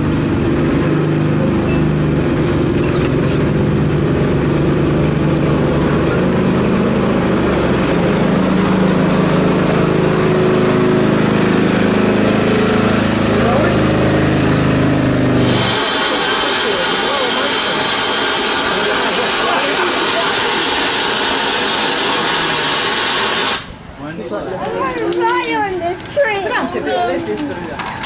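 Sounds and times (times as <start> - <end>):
small petrol engine idling: 0.0 - 24.0.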